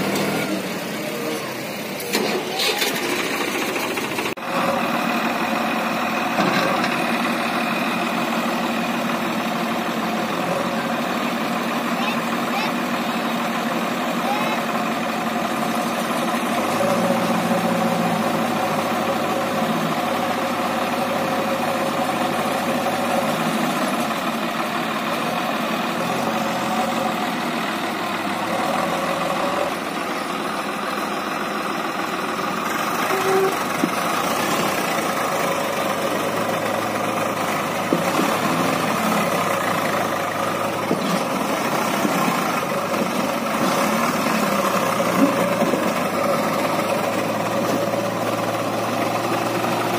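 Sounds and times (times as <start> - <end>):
diesel engines running: 0.0 - 49.9.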